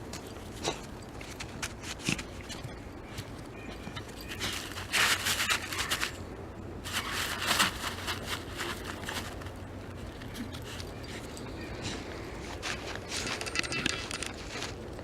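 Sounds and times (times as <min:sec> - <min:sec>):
dog paws crunching through snow: 0:00.1 - 0:06.2, 0:06.8 - 0:15.0.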